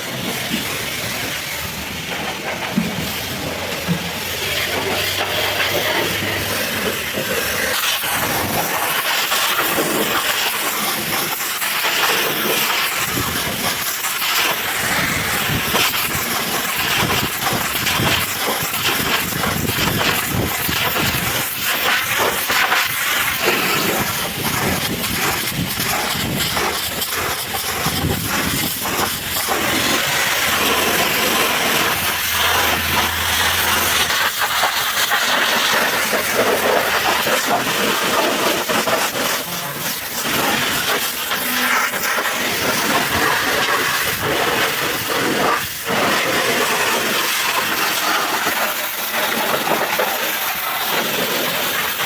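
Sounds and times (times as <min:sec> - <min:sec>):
pressure washer spraying water: 0:00.0 - 0:52.0.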